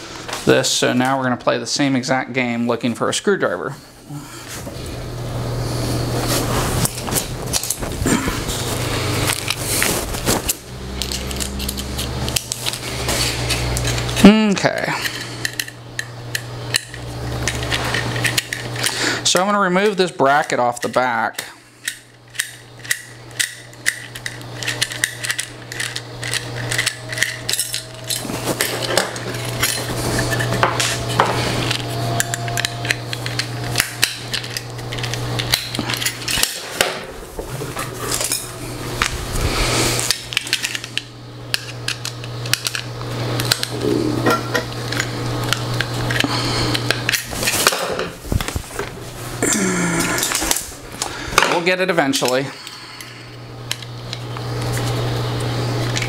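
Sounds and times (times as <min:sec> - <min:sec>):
low hum: 0:03.9 - 0:19.2, 0:21.6 - 0:51.4
hand tools and parts clattering: 0:06.3 - 0:39.2, 0:39.9 - 0:53.1.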